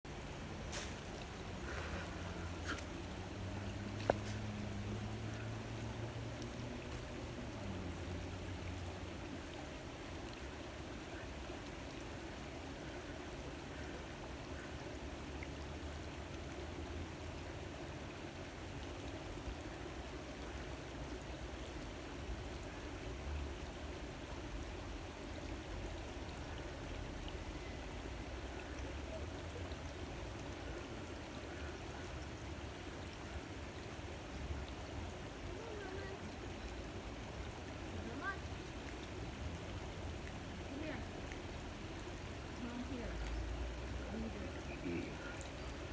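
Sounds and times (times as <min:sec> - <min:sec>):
stream water running: 0:00.0 - 0:45.9.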